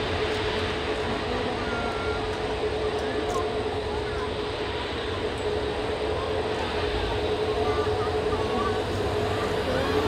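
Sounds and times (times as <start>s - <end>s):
jet engines at taxi power: 0.0s - 10.0s.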